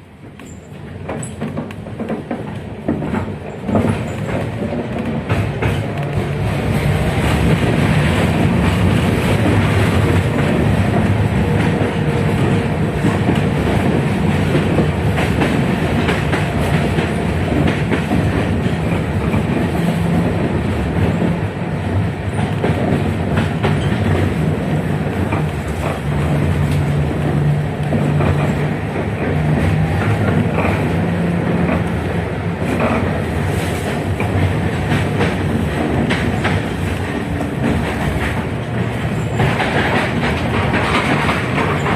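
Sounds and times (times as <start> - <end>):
tram wheels running on rails: 0.0 - 41.9.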